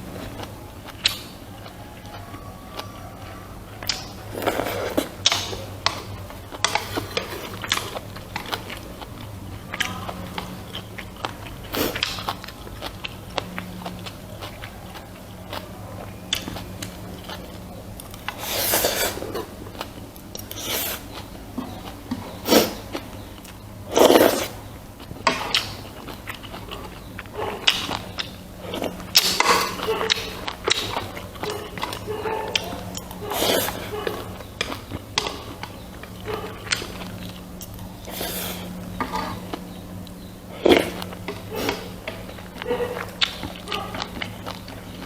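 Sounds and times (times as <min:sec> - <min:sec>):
person chewing food: 0:00.0 - 0:45.0
steady low hum: 0:00.0 - 0:45.0.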